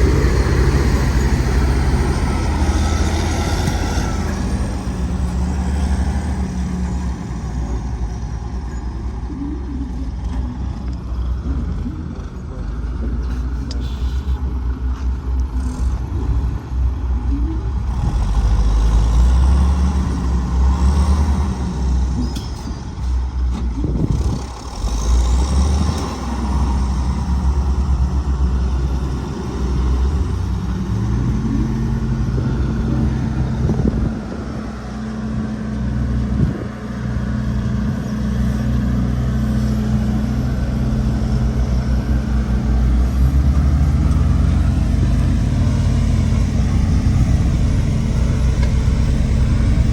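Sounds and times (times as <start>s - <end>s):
road roller diesel engine running: 0.0s - 49.9s.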